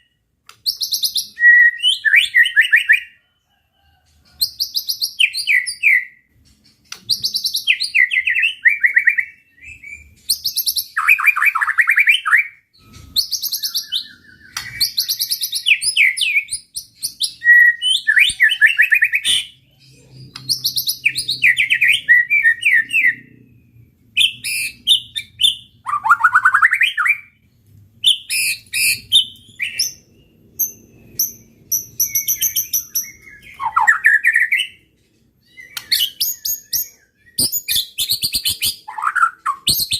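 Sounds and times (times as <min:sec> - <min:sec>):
bird singing trills and whistles: 0:00.0 - 0:03.2, 0:04.4 - 0:27.4, 0:28.0 - 0:39.9.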